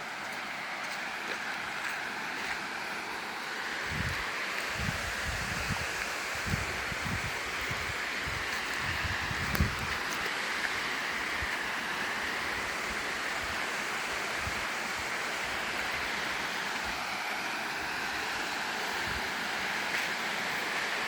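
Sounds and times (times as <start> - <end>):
rushing falling water: 0.0 - 21.0.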